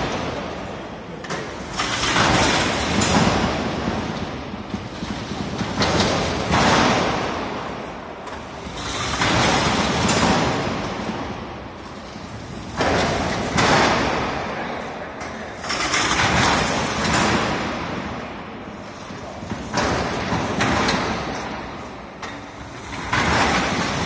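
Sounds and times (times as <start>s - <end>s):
coaster wheels rumbling on steel rail: 0.0s - 24.0s.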